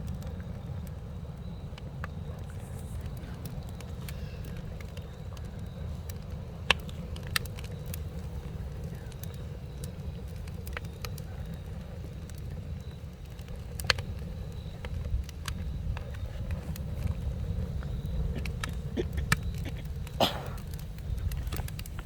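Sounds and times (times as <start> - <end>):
campfire crackling: 0.0 - 22.0
low fire rumble: 0.0 - 22.0
sharp fire pops: 0.0 - 22.0.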